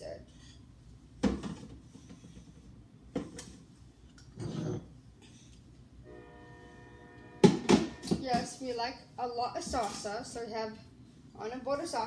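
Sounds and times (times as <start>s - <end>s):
refrigerator hum: 0.0s - 12.0s.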